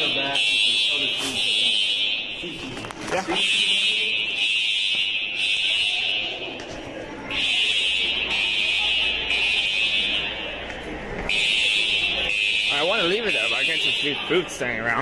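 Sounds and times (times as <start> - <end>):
fire alarm high-pitched tone: 0.0 - 2.6, 3.3 - 6.6, 7.3 - 10.6, 11.3 - 14.4.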